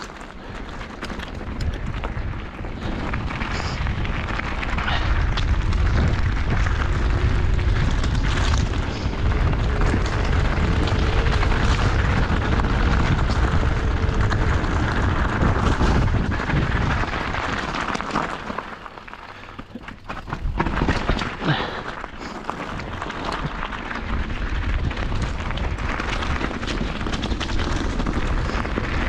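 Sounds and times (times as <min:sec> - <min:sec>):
wind buffeting microphone: 0:00.0 - 0:18.0, 0:22.7 - 0:29.0
bike tyres rumbling over trail: 0:00.0 - 0:29.0.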